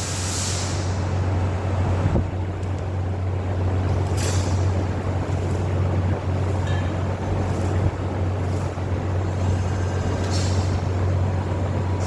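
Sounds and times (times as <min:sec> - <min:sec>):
machine humming with rushing noise: 0:00.0 - 0:12.0.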